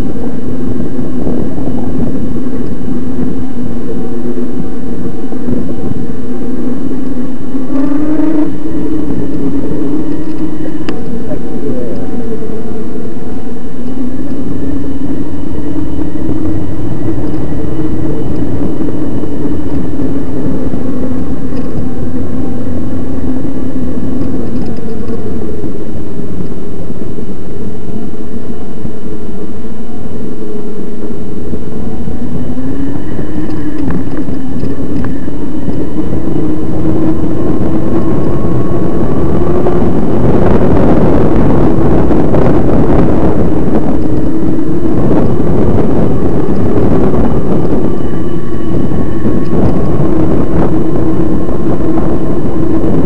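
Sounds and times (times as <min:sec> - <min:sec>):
electric bike motor whining: 0:00.0 - 0:53.0
heavy low rumble: 0:00.0 - 0:53.0.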